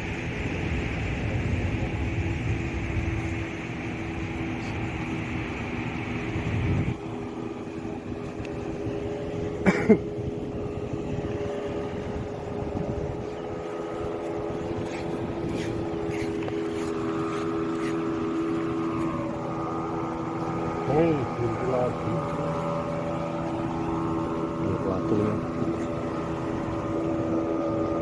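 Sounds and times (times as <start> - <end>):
boat engine humming: 0.0 - 28.0
wide rush of noise: 0.0 - 28.0.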